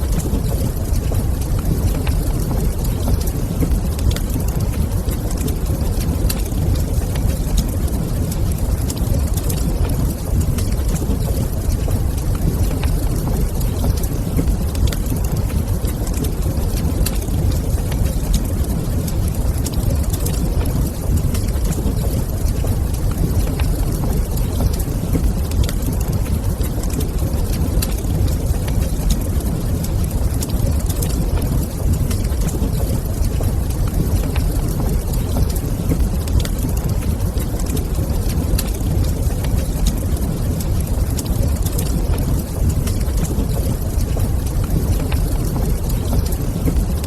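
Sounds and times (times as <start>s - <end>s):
fire pops and snaps: 0.0s - 47.0s
low fire rumble: 0.0s - 47.0s
wood fire crackling: 0.0s - 47.0s.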